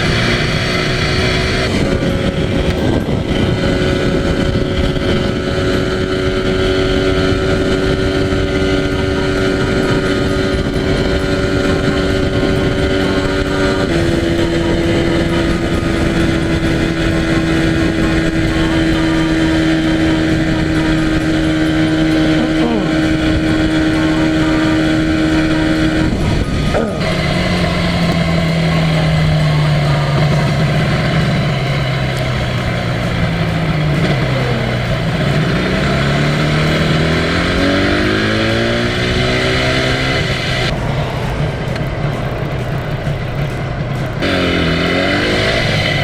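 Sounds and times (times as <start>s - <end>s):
motorcycle engine running: 0.0s - 46.0s
wind and road noise: 0.0s - 46.0s.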